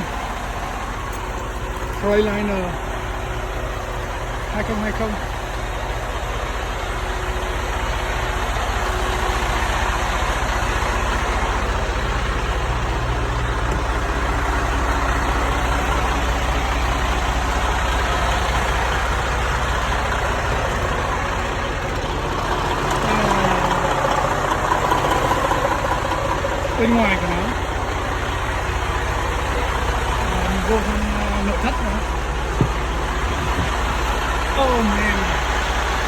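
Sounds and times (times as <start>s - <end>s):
diesel truck engine idling: 0.0s - 36.0s.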